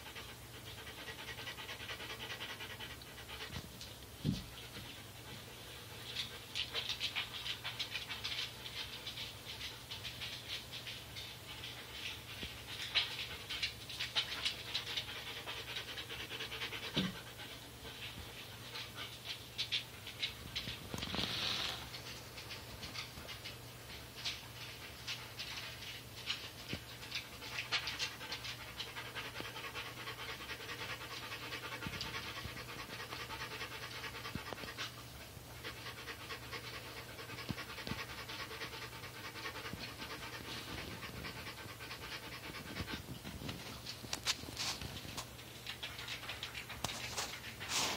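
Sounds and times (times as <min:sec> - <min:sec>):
dog panting: 0:00.0 - 0:47.9.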